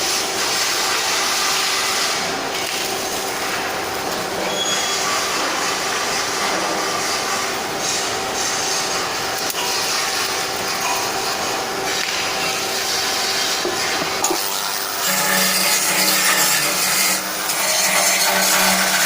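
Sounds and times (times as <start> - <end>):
workshop machinery hiss: 0.0 - 19.0.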